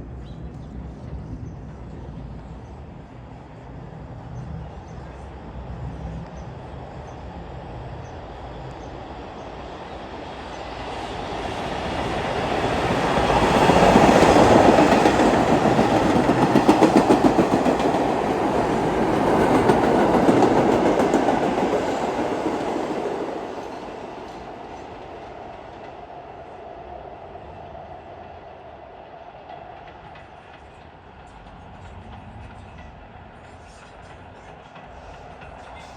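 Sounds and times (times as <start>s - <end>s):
subway train passing: 0.0s - 35.9s.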